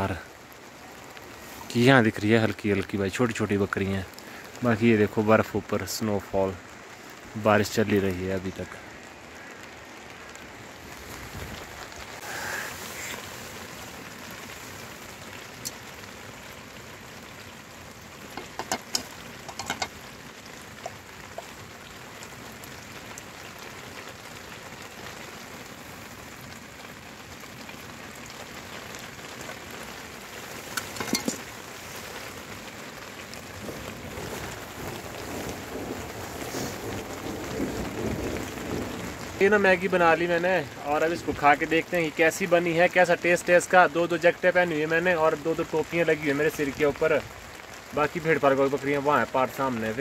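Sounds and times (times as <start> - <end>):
heavy rain on a tarp: 0.0 - 50.0.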